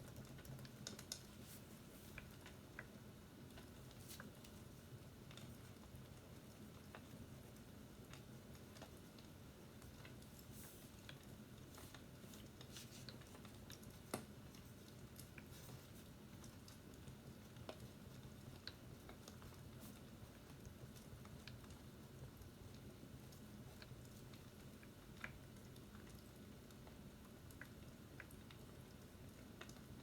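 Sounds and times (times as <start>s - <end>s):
low steady hum: 0.0s - 30.0s
fireplace crackling: 0.1s - 26.8s.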